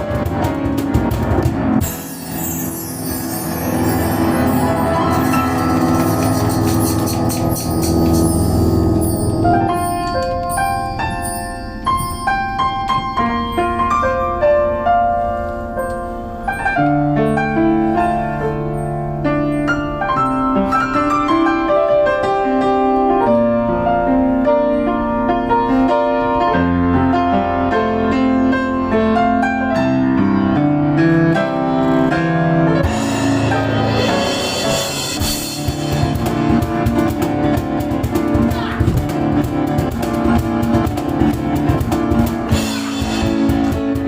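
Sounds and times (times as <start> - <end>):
piano solo: 0.0 - 44.0.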